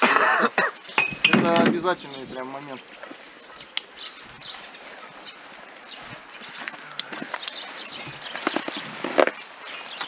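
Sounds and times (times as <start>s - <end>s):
dry leaves crackling: 1.8s - 10.0s.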